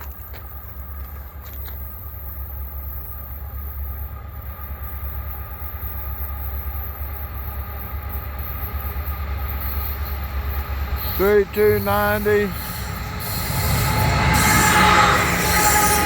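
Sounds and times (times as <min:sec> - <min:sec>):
diesel locomotives rumbling: 0:00.0 - 0:16.0
steady whine: 0:00.0 - 0:16.0.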